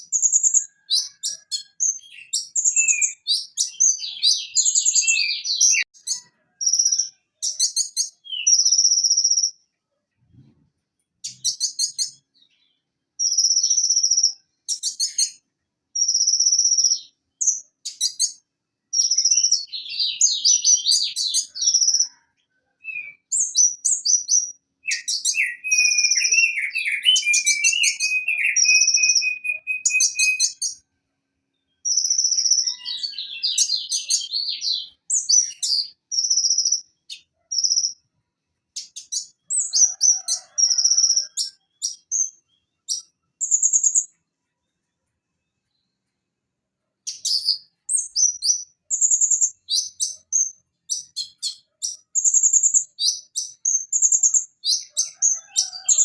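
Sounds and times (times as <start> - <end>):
sunbird singing high trills: 0.0 - 9.6, 11.2 - 15.4, 19.0 - 22.2, 22.8 - 30.8, 31.6 - 38.0, 38.8 - 44.1, 47.1 - 55.2.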